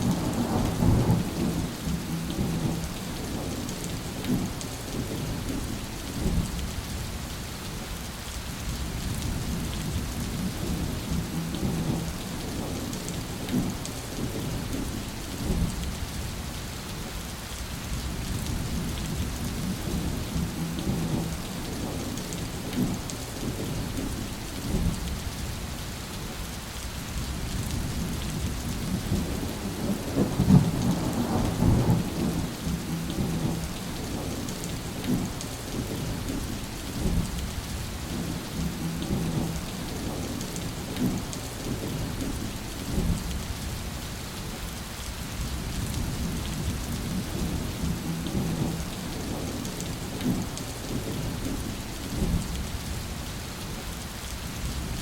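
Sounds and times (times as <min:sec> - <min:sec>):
thunder rumbling: 0:00.0 - 0:06.9, 0:08.8 - 0:16.2, 0:18.0 - 0:25.4, 0:27.2 - 0:43.6, 0:45.4 - 0:53.0
heavy rain falling: 0:00.0 - 0:55.0.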